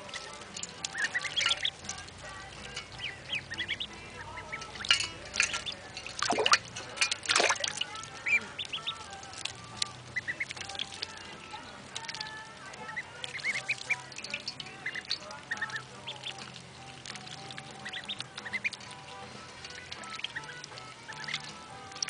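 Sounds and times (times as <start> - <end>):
ducklings peeping: 0.0 - 6.6, 7.3 - 22.0
splashing in water dish: 0.0 - 22.0.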